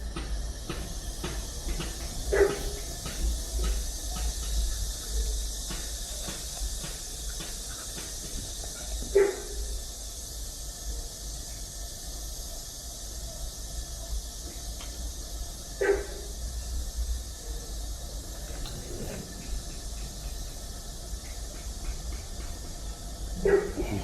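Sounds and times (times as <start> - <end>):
steady high hiss: 0.0 - 24.0.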